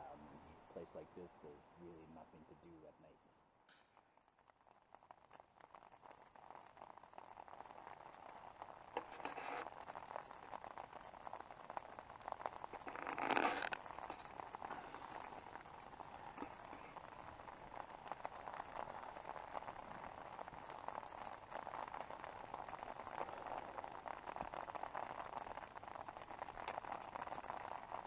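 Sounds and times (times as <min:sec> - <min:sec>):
rain pattering on a tent: 0:00.0 - 0:03.1, 0:03.8 - 0:28.0.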